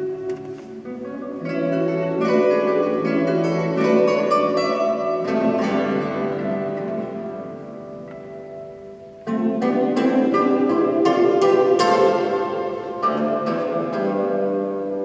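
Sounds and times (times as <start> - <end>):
classical guitar playing: 0.0 - 15.0.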